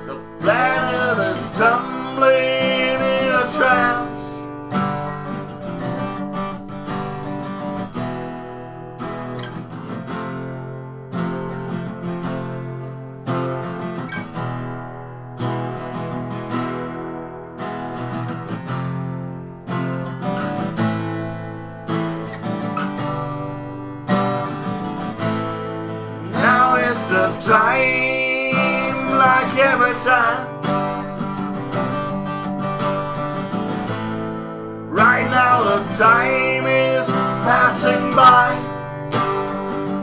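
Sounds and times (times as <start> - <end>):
acoustic guitars strumming: 0.0 - 40.0.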